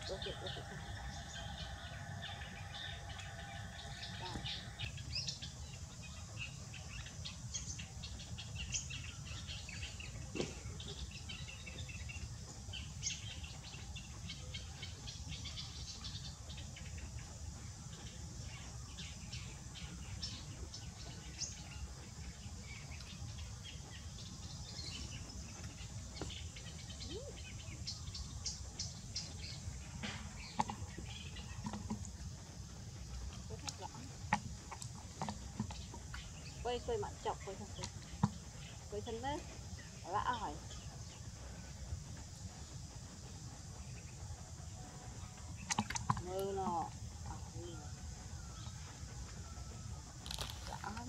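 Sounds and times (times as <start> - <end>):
small birds chirping: 0.0 - 51.0
steady low rumble: 0.0 - 51.0.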